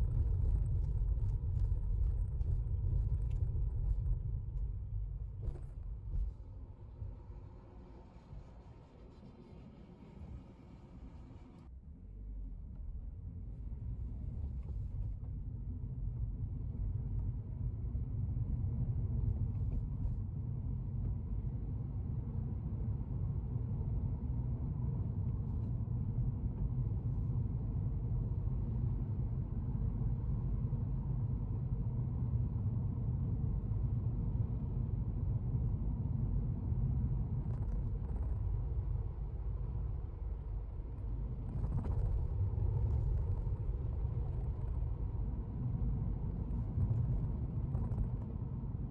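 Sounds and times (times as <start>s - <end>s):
road and engine rumble in car: 0.0s - 48.9s.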